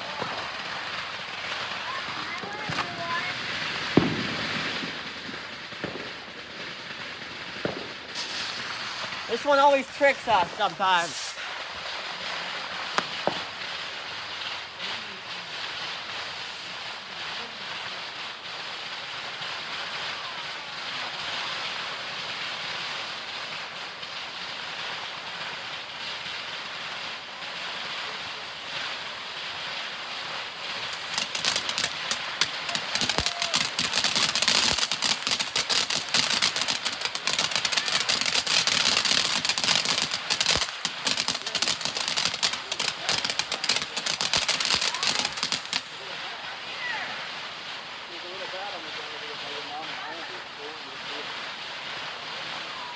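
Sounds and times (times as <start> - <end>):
firework crackling: 0.0 - 52.9
ground fountain firework hissing: 0.0 - 52.9.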